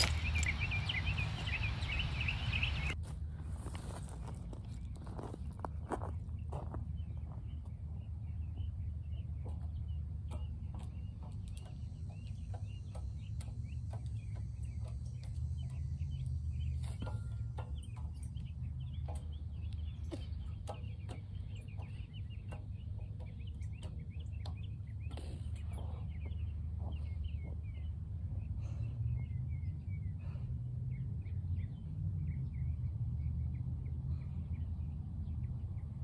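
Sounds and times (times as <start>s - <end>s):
birds chirping: 0.0s - 3.0s, 5.9s - 36.0s.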